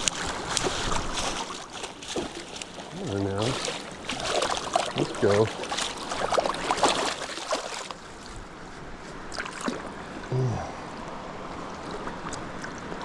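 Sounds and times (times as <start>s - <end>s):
river current rushing: 0.0s - 12.6s.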